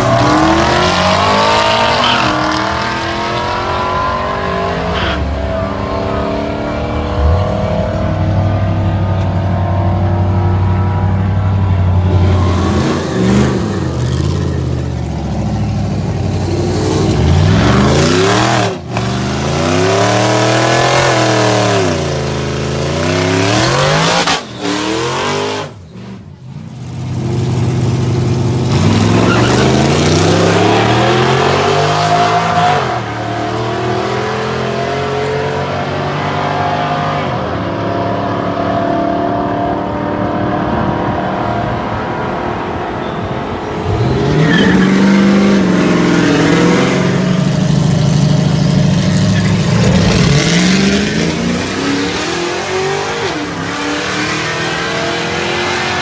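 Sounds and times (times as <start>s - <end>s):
drag racing engines revving: 0.0s - 56.0s.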